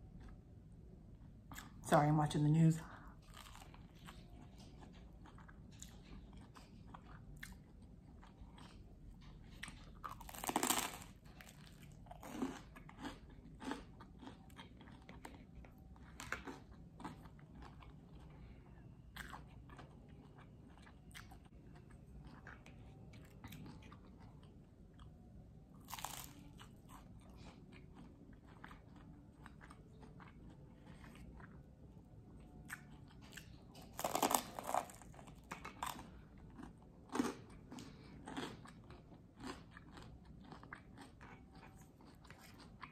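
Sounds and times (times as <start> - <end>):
person chewing crunchy food: 3.2 - 42.9.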